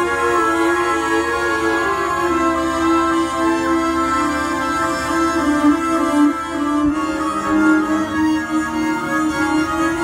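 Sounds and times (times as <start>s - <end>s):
string orchestra holding notes: 0.0s - 10.0s.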